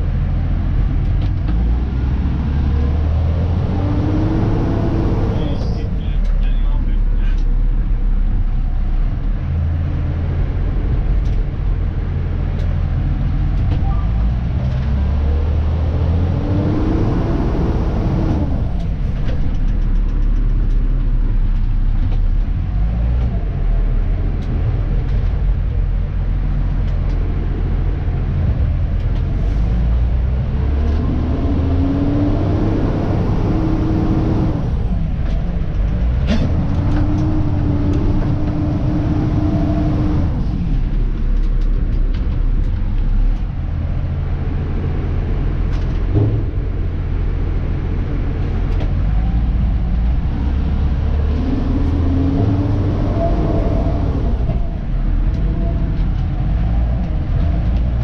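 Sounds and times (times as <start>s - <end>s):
truck engine rumble with whine: 0.0s - 58.0s.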